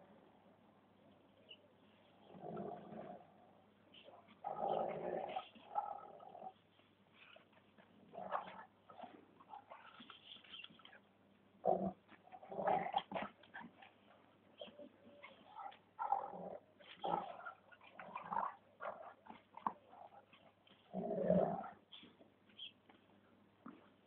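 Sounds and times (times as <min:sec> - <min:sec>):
dogs play-fighting: 0:03.9 - 0:11.0, 0:11.7 - 0:24.0.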